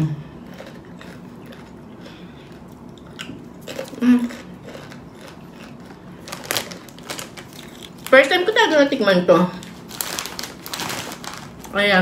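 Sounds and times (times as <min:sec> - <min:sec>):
chewing crunchy chip: 0:00.0 - 0:08.1, 0:09.6 - 0:11.7.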